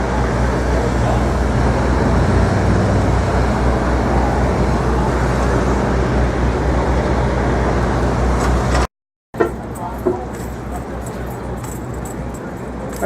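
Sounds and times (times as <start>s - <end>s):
low engine hum: 0.0s - 13.0s
street traffic rumble: 0.0s - 13.0s.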